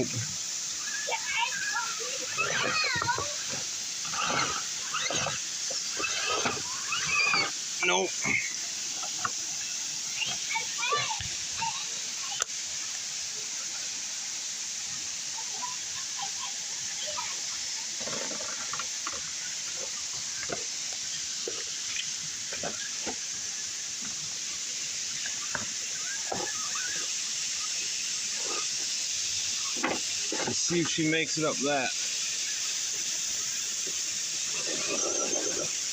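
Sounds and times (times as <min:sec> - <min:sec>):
flowing water: 0:00.0 - 0:35.9.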